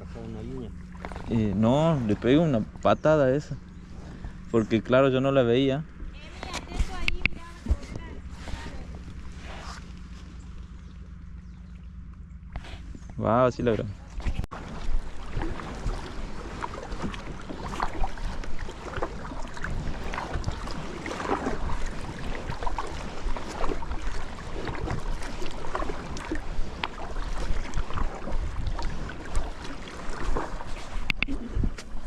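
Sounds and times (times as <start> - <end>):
wind rumble on microphone: 0.0 - 11.7, 12.5 - 32.0
paddle splashing in water: 0.8 - 4.6, 6.2 - 10.9, 14.1 - 32.0.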